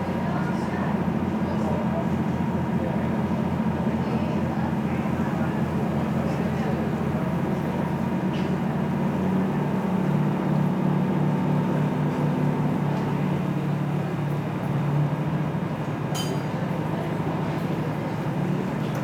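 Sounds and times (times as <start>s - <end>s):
ferry engine humming: 0.0s - 19.0s
wind: 0.0s - 19.0s.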